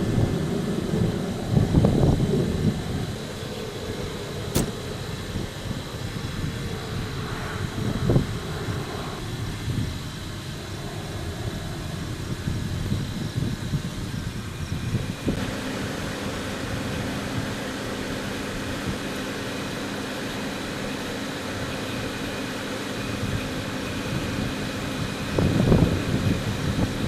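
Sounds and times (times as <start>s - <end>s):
vehicle engine and fan hum: 0.0s - 27.0s.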